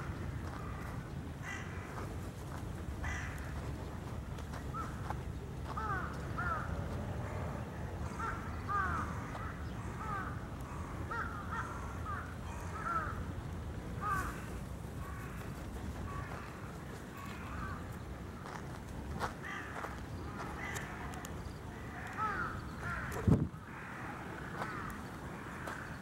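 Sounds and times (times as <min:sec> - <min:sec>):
steady low rumble: 0:00.0 - 0:26.0
birds calling: 0:03.0 - 0:26.0.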